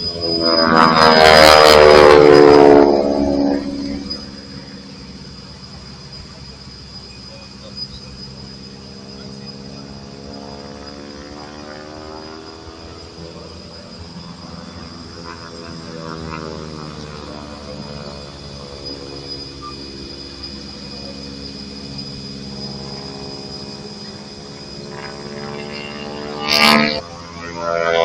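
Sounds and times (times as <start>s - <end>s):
biplane engine droning past: 0.0s - 28.0s
high-pitched whine: 0.0s - 28.0s.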